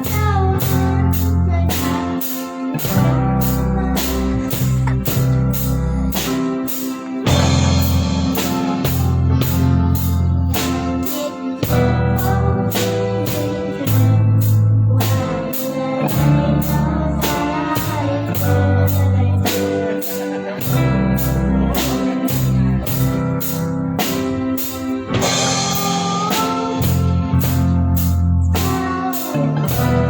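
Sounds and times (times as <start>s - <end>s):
live band playing: 0.0s - 30.0s
person singing: 0.0s - 30.0s.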